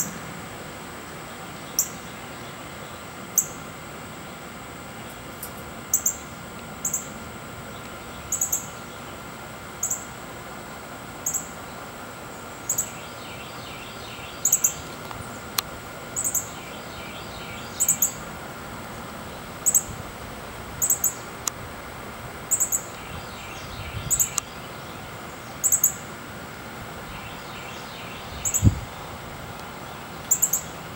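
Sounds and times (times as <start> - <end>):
hummingbird chip notes: 0.0 - 30.9.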